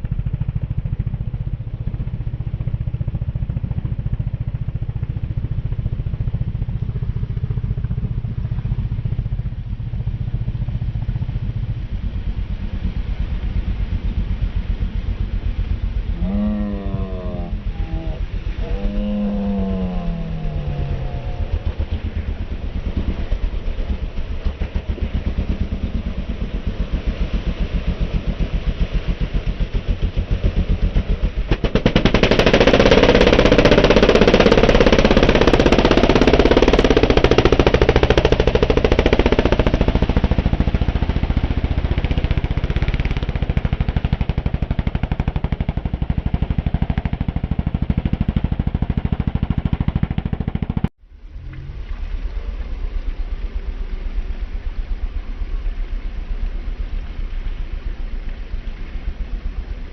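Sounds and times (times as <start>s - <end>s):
racing engine running: 0.0s - 59.9s.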